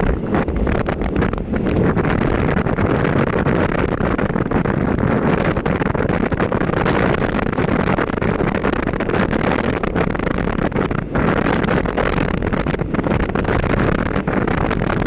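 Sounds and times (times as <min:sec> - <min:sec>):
moving train rumble: 0:00.0 - 0:15.0
wind buffeting microphone: 0:00.0 - 0:15.0.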